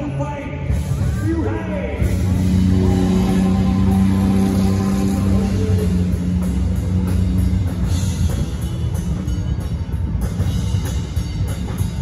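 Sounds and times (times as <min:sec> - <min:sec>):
rock music with drum kit: 0:00.0 - 0:12.0.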